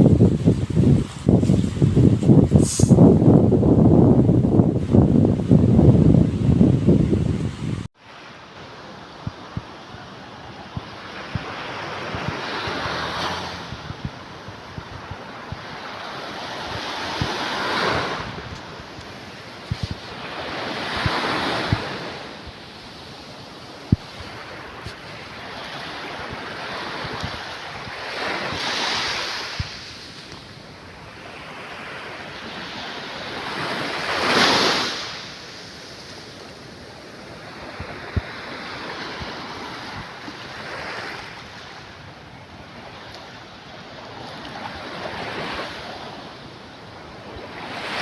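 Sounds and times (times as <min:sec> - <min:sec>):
wind on microphone: 0:00.0 - 0:07.9, 0:08.9 - 0:48.0
ocean waves breaking: 0:04.7 - 0:48.0.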